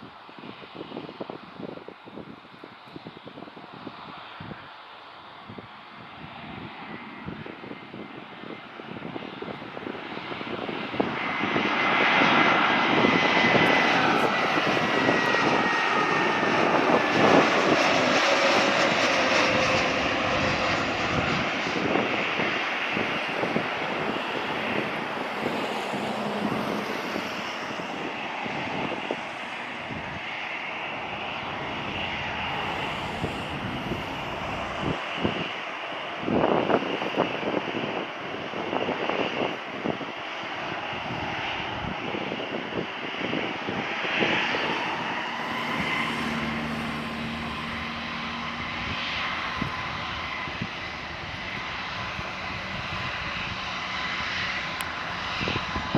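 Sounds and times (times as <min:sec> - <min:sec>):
jet engines roaring: 0:00.5 - 0:55.9
high engine whine: 0:06.5 - 0:55.9.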